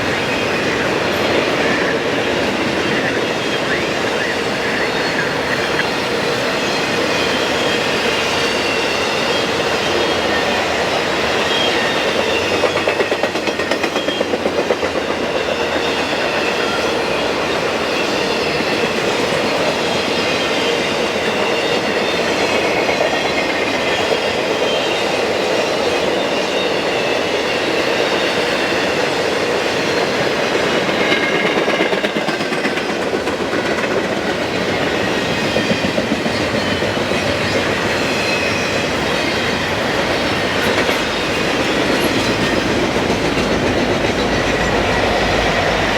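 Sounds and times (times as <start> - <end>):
high wheel squeal: 0.0 - 33.2, 34.3 - 45.9
train wheels clicking over rail joints: 0.1 - 45.9.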